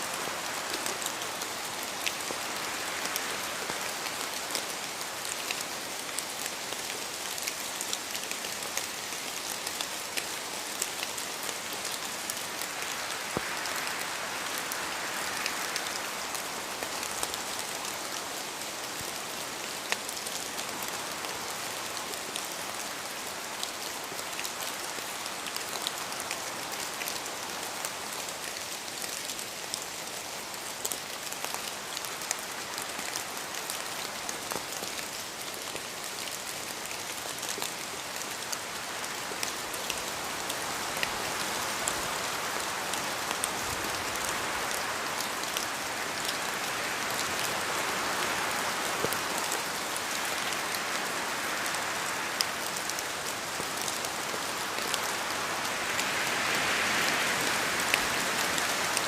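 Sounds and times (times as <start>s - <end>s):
steady rain falling: 0.0s - 59.0s
raindrops ticking on a surface: 0.1s - 59.0s.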